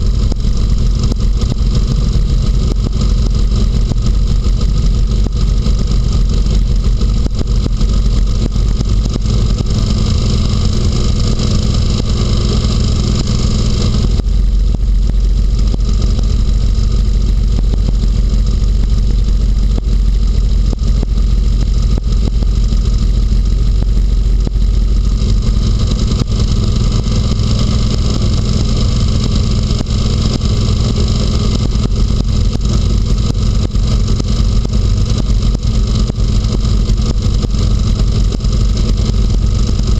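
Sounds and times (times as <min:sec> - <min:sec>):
hovercraft engine and fan: 0:00.0 - 0:39.9
low rumble: 0:00.0 - 0:39.9.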